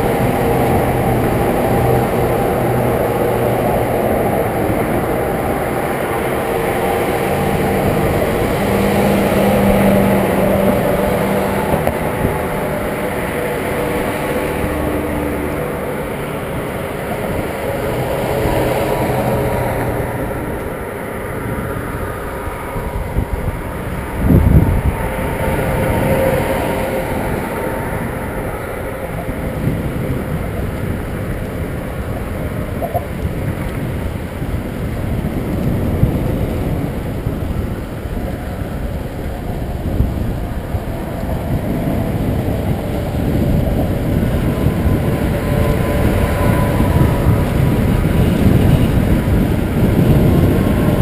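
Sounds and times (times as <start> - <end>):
vehicles passing: 0.0 - 51.0
wind and road noise: 0.0 - 51.0.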